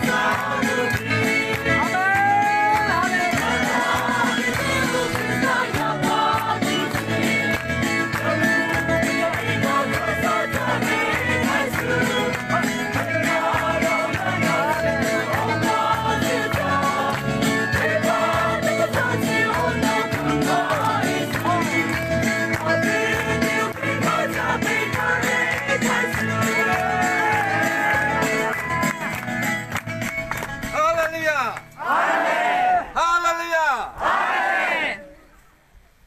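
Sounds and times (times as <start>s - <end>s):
crowd singing a gospel hymn: 0.0s - 28.6s, 34.0s - 35.0s.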